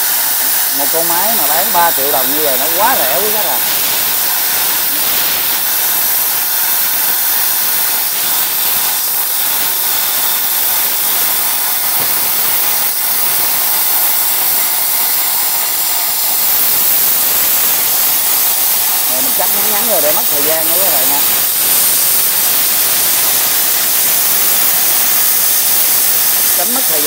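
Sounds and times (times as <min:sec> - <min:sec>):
plasma cutter hissing: 0:00.0 - 0:27.0.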